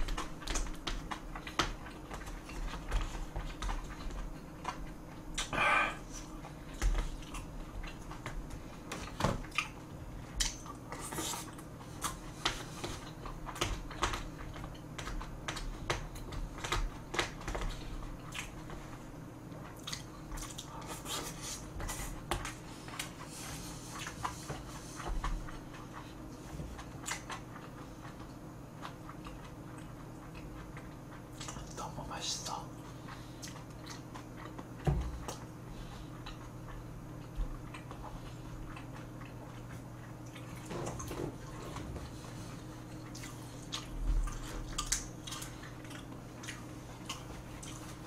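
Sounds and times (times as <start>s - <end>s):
person chewing with mouth smacks: 0.0s - 31.9s, 32.5s - 48.0s.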